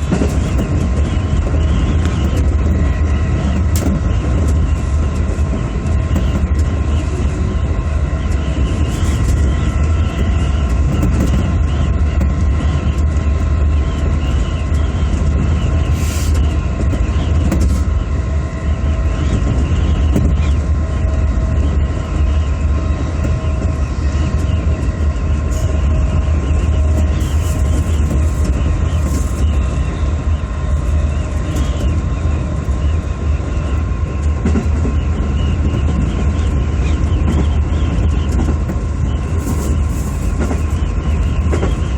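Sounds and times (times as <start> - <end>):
train rumble and hum: 0.0 - 41.9.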